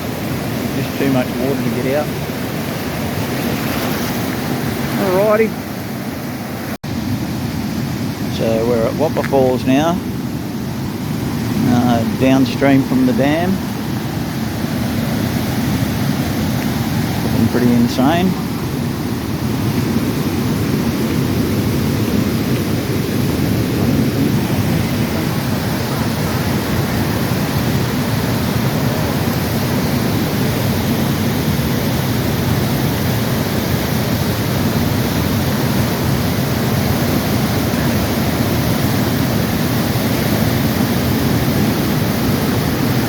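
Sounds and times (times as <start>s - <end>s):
water rushing over waterfall: 0.0s - 43.0s.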